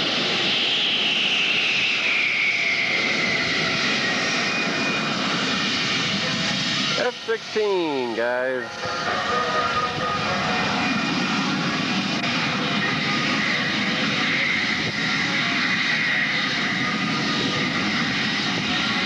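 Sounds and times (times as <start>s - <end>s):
airplane flying by: 0.0s - 19.0s.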